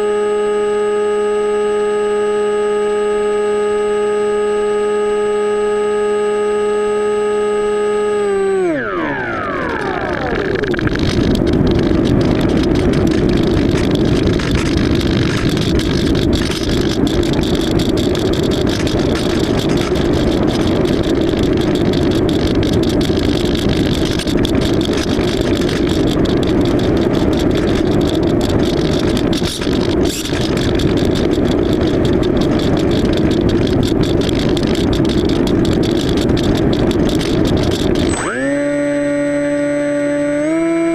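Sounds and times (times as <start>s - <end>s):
model plane motor whirring: 0.0s - 40.9s.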